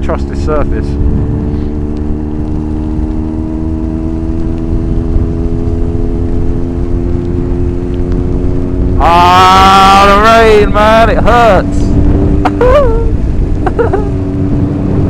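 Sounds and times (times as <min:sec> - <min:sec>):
low rumble: 0:00.0 - 0:15.0
motorcycle engine running: 0:00.0 - 0:15.0.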